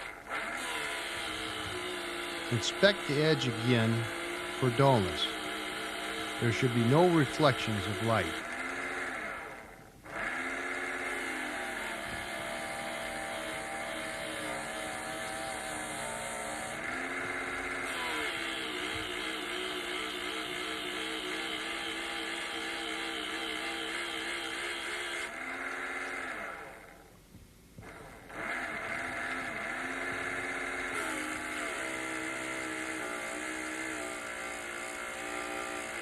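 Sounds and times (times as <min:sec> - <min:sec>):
honing machine motor humming: 0:00.0 - 0:26.6, 0:28.3 - 0:36.0.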